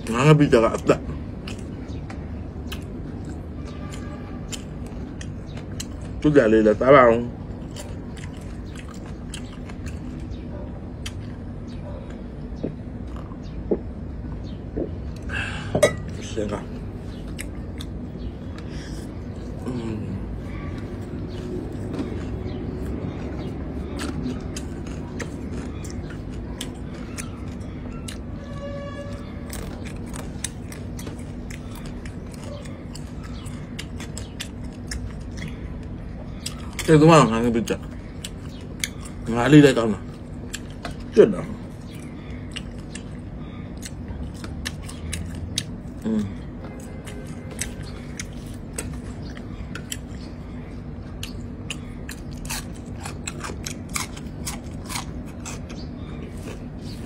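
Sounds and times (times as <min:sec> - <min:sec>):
steady low hum: 0:00.0 - 0:57.0
chewing with mouth clicks: 0:00.7 - 0:06.3, 0:07.4 - 0:15.4, 0:16.0 - 0:28.5, 0:29.1 - 0:57.0.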